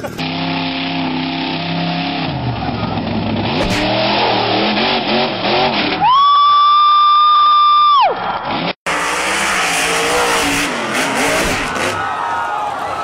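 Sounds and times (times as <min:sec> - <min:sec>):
truck engine revving: 0:00.0 - 0:06.1, 0:08.2 - 0:13.0.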